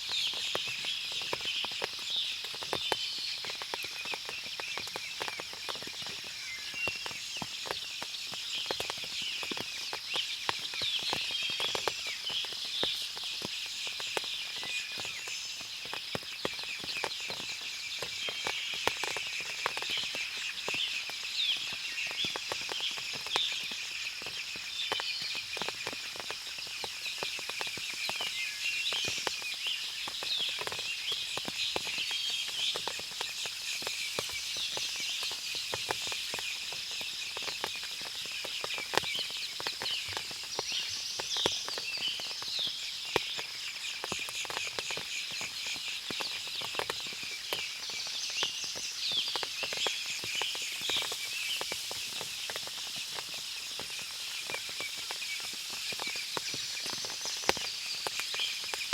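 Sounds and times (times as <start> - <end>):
water drips and ticks: 0.0 - 58.9.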